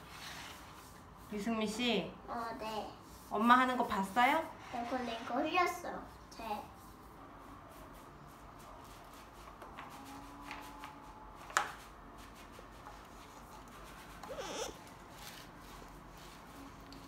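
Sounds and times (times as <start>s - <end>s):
paint roller on wall: 0.0s - 17.0s.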